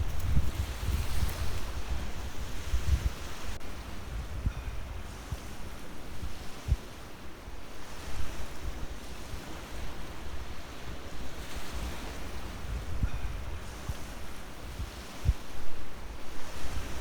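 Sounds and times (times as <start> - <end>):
sea waves on shore: 0.0 - 17.0
wind buffeting microphone: 0.0 - 17.0.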